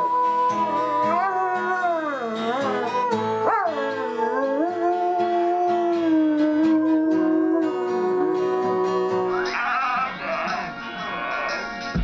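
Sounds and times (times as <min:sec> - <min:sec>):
dog howling: 0:00.0 - 0:10.6
music: 0:00.0 - 0:12.0.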